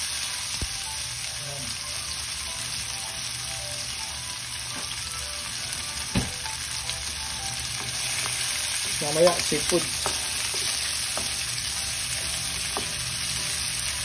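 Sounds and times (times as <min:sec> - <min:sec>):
food sizzling in pan: 0:00.0 - 0:14.0.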